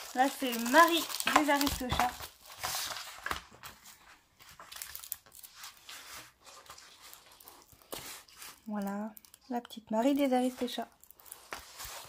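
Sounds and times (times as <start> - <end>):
plastic film rustling and crinkling: 0.0 - 12.0.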